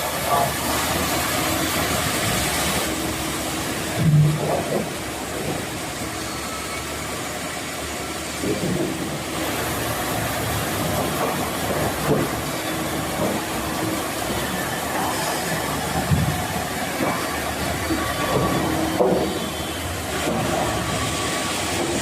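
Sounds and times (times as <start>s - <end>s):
wood-cutting machinery running: 0.0s - 22.0s.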